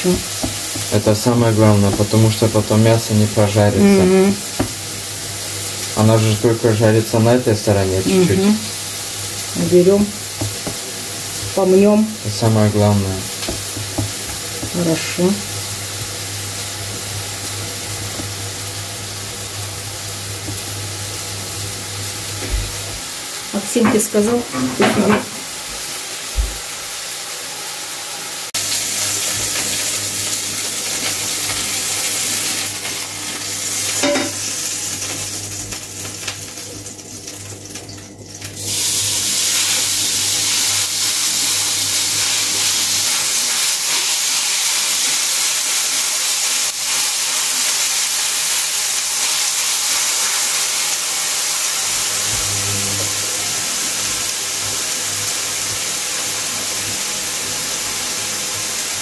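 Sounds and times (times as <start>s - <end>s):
tortillas sizzling in a pan: 0.0s - 23.6s, 25.1s - 59.0s.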